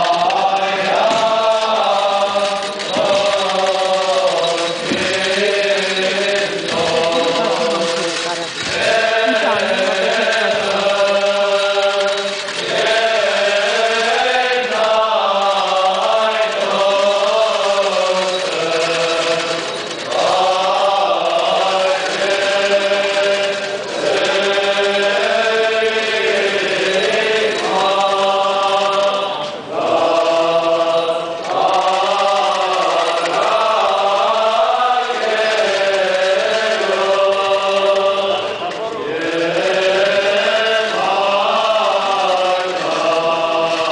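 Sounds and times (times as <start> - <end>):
choir chanting: 0.0 - 43.9.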